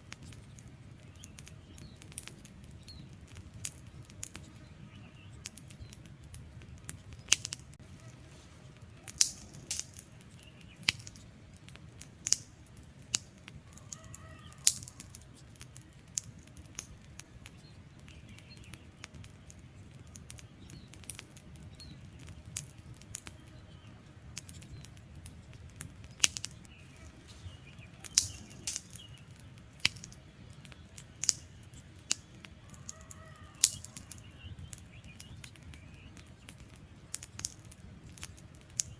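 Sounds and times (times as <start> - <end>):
low rush of flame: 0.0 - 38.9
wood fire crackling and popping: 0.0 - 38.9.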